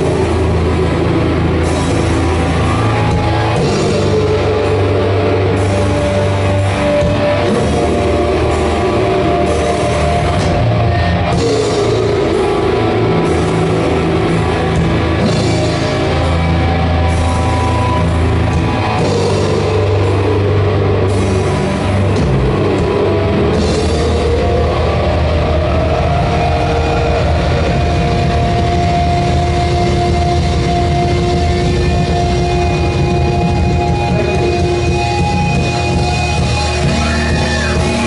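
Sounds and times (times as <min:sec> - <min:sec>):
bass: 0:00.0 - 0:38.0
distorted guitars: 0:00.0 - 0:38.0
drums: 0:00.0 - 0:38.0
keyboards: 0:00.0 - 0:38.0.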